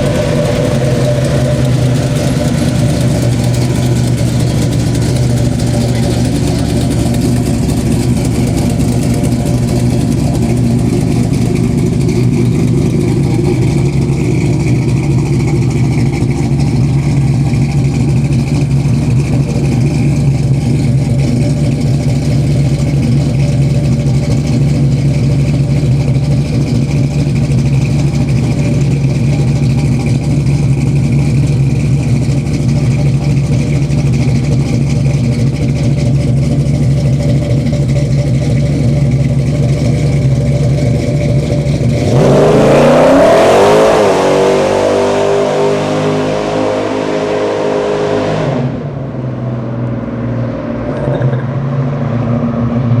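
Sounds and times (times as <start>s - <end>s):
car engine running steadily: 0.0s - 53.0s.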